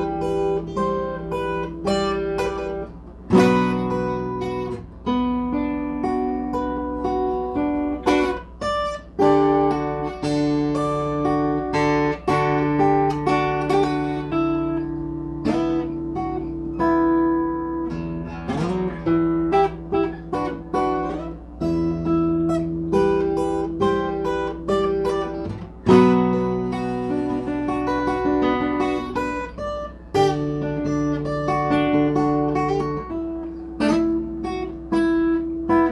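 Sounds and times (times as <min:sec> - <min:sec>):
plucked string instrument: 0:00.0 - 0:35.9.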